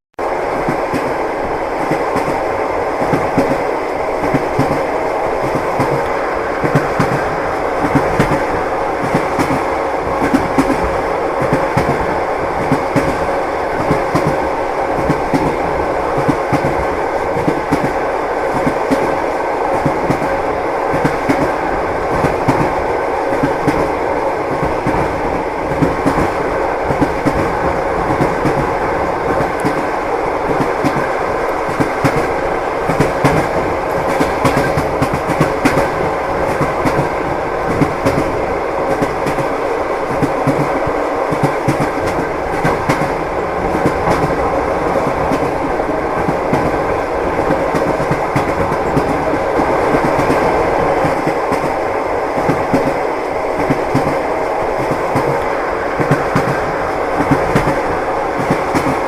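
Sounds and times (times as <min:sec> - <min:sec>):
train wheels clattering: 0:01.8 - 0:59.0.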